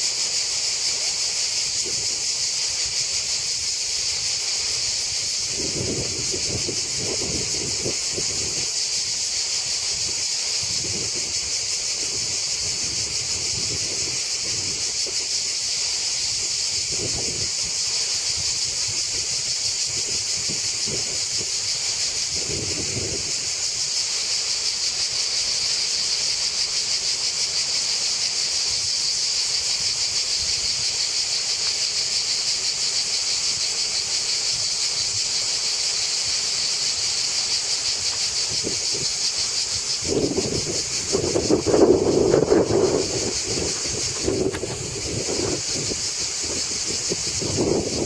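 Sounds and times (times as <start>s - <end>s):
cicadas buzzing in chorus: 0.0s - 48.0s.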